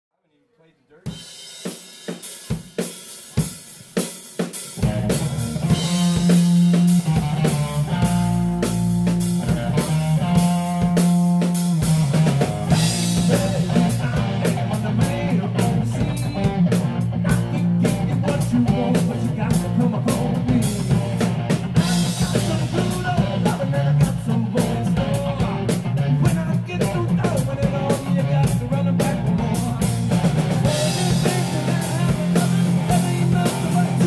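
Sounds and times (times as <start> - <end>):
drum kit hits: 1.1 - 28.1, 29.0 - 34.0
rock band playing: 1.1 - 34.0.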